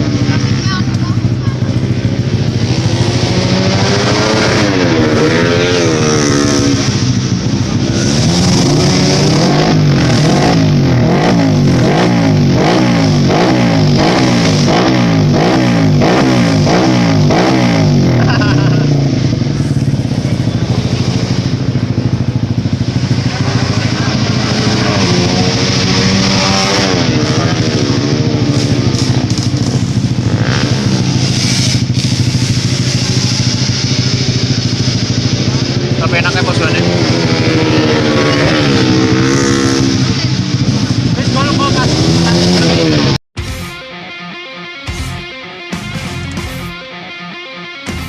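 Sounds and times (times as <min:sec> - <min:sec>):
motorcycle engine revving: 0:00.0 - 0:43.8.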